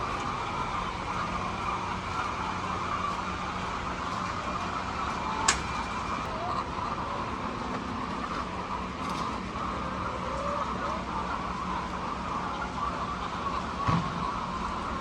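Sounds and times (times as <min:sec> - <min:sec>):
low droning hum: 0:00.0 - 0:15.0.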